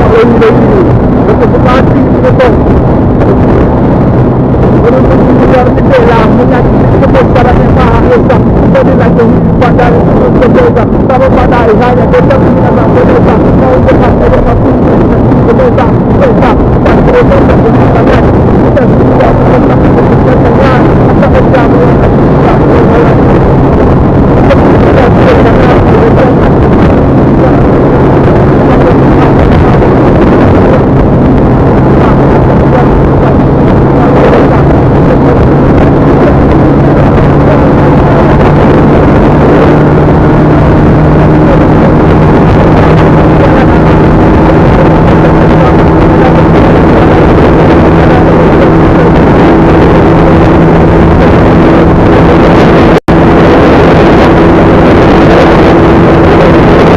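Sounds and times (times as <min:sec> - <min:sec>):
road and wind noise: 0:00.0 - 0:56.9
vehicle engine running: 0:00.0 - 0:56.9.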